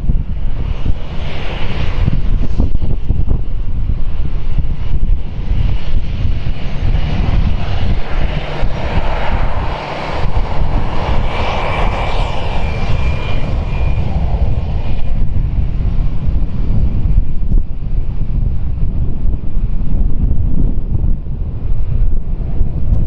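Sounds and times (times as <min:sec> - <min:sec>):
jet engines roaring with whine: 0:00.0 - 0:23.0
wind rumbling on microphone: 0:00.0 - 0:23.0.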